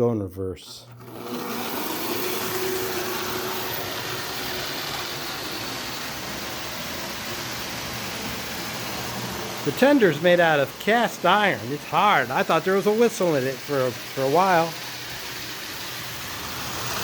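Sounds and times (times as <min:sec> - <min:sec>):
toy train motor hum: 0:00.9 - 0:17.0
wheels rattling over rails: 0:01.0 - 0:17.0.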